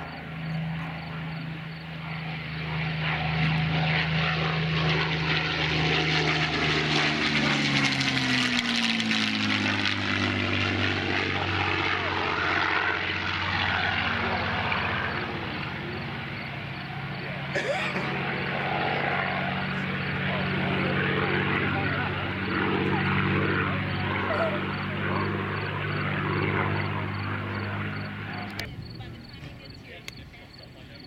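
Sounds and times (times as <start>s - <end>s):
propeller plane engine passing: 0.0s - 31.0s.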